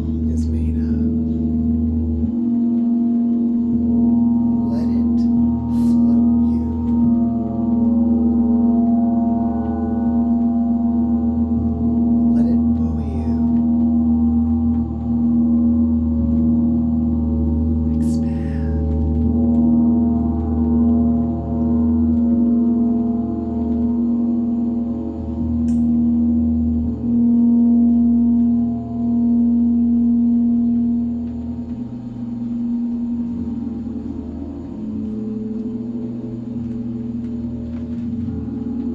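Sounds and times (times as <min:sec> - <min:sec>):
layered overtone drone: 0:00.0 - 0:38.9.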